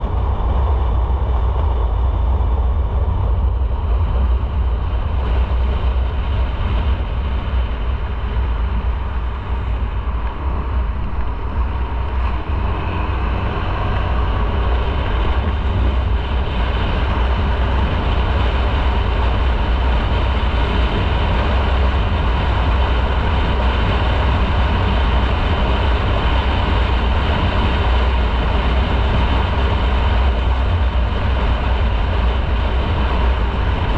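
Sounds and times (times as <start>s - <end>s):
road noise: 0.0s - 33.9s
wind rumble on microphone: 0.0s - 33.9s
motorcycle engine: 4.9s - 33.9s.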